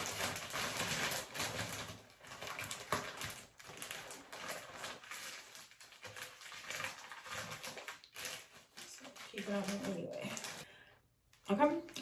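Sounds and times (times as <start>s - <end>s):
plastic shower cap crinkling: 0.0s - 10.7s.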